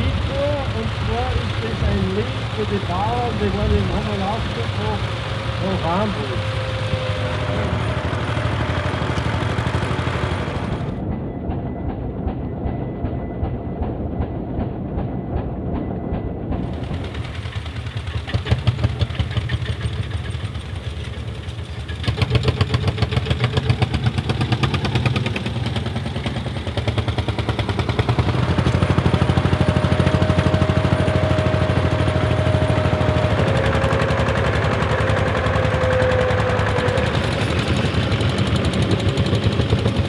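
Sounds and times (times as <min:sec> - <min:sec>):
diesel tractor engine thumping: 0:00.0 - 0:11.0, 0:16.6 - 0:40.0.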